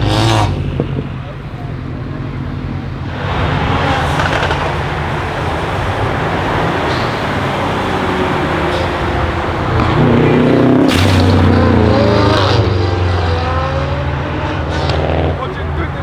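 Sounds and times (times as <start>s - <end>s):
car engine: 0.0s - 16.0s
tyre and road noise: 0.0s - 16.0s.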